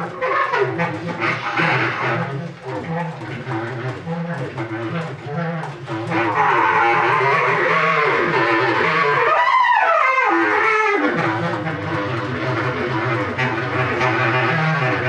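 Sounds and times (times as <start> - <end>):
bass clarinet low tone: 0.0 - 15.0.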